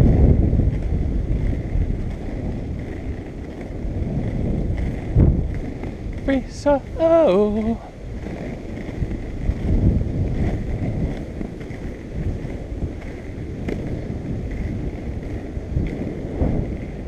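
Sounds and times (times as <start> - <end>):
skateboard wheels rolling on asphalt: 0.0 - 17.0
wind buffeting microphone: 0.0 - 17.0.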